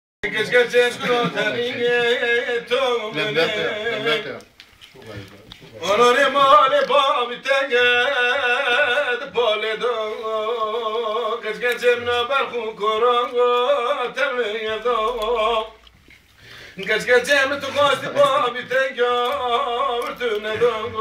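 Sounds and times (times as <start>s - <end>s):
man singing unaccompanied: 0.2s - 4.5s, 5.8s - 15.9s, 16.8s - 21.0s.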